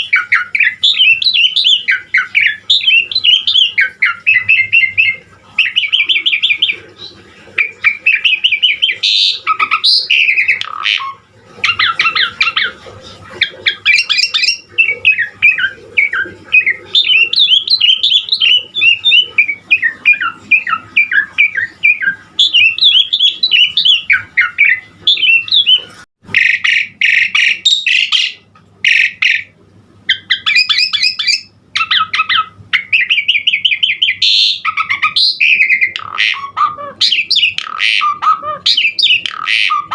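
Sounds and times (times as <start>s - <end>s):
starling singing: 0.0s - 39.9s
starling squawking: 0.0s - 39.9s.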